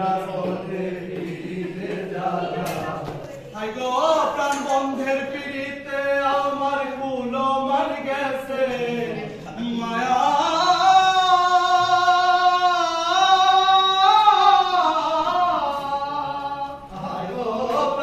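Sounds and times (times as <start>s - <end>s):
person singing unaccompanied: 0.0s - 18.0s.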